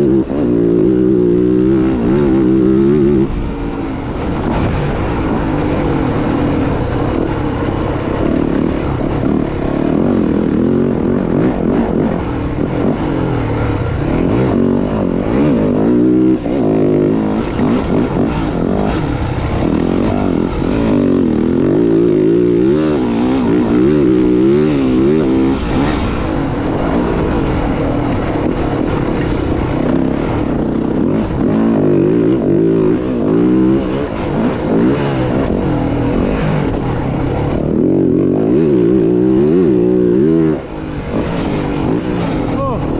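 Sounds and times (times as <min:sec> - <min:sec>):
dirt bike engines revving: 0:00.0 - 0:42.9.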